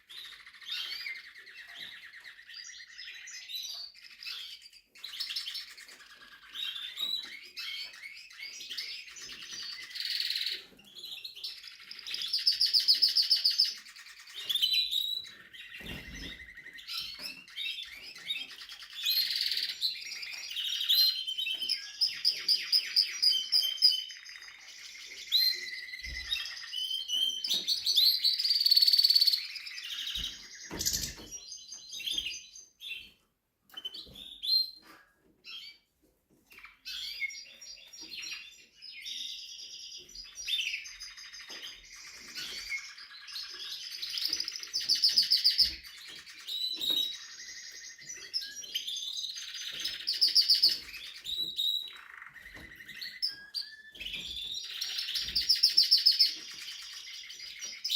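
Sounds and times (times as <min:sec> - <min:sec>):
canary trilling and chirping: 0:00.0 - 0:57.9.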